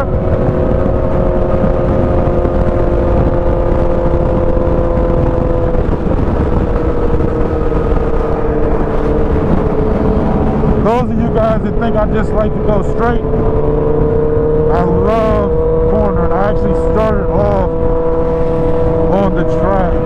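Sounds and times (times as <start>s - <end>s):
motorcycle engine at high revs: 0.0s - 20.0s
wind rushing: 0.0s - 20.0s.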